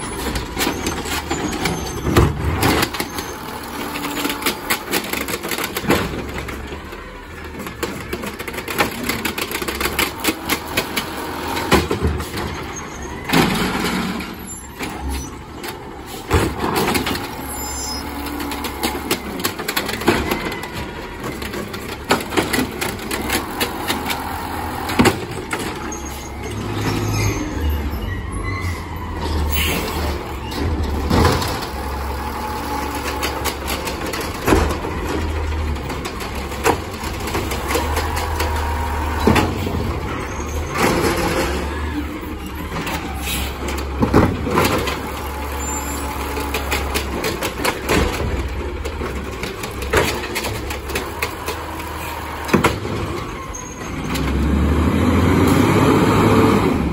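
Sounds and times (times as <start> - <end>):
carts banging against metal: 0.0 - 56.9
garbage truck engine revving: 0.0 - 56.9
hydraulic arm lifting carts: 0.0 - 56.9.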